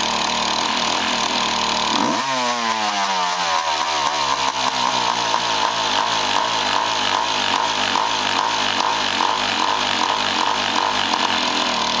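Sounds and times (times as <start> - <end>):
two-stroke engine idling: 0.0 - 12.0.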